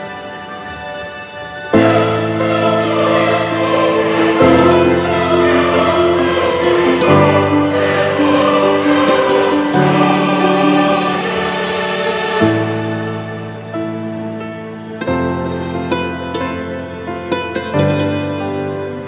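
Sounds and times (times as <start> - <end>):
background music held chords: 0.0 - 19.0.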